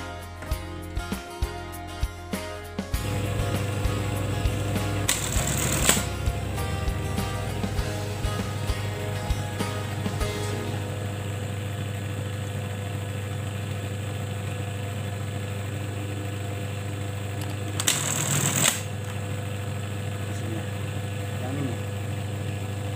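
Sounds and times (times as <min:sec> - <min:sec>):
sewing machine motor humming: 0:03.0 - 0:22.9.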